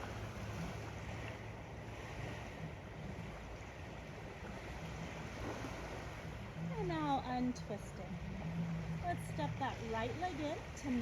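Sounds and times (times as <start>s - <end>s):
ocean waves lapping on sand: 0.0s - 11.0s.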